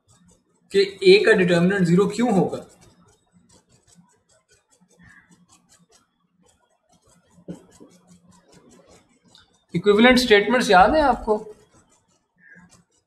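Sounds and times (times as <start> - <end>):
soft rapid ticks: 0.0 - 13.0.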